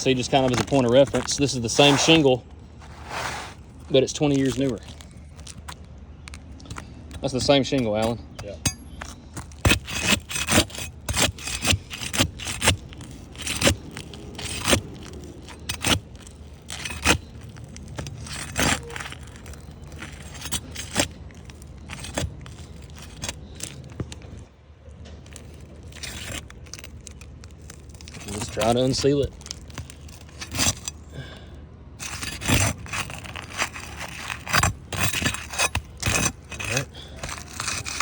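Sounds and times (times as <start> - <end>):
scrapes and clicks on shingle roof: 0.0 - 31.4, 32.0 - 38.0.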